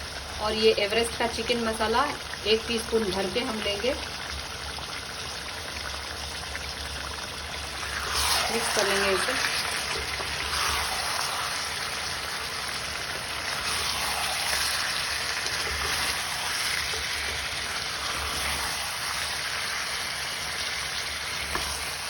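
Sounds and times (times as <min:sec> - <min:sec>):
meat sizzling in a pan: 0:01.6 - 0:22.0.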